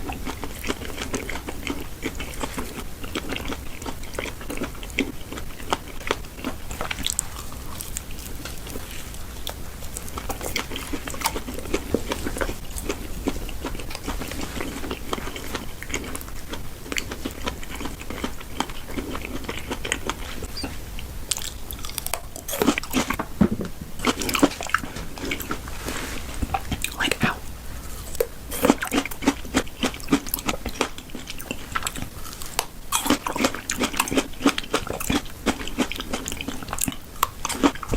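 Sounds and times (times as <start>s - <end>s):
wet chewing: 0.0s - 23.3s, 24.0s - 37.9s.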